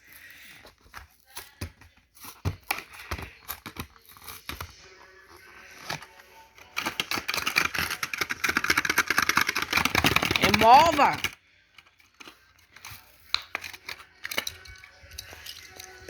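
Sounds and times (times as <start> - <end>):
packaging crinkling and clicking: 0.2 - 16.0.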